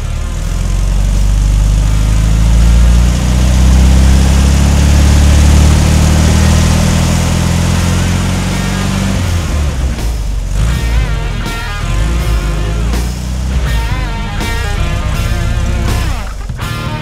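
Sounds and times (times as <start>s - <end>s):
recorded car engine idling: 0.0s - 17.0s.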